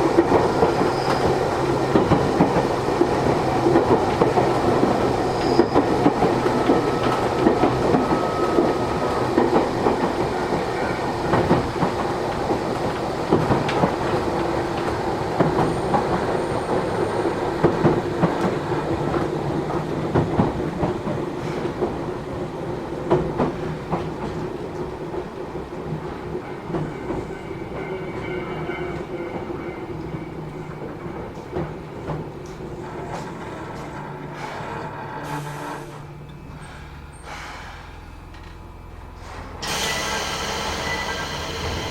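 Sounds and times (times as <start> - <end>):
wheels clicking over rail joints: 0.0 - 37.4
train cabin rumble: 0.0 - 41.9.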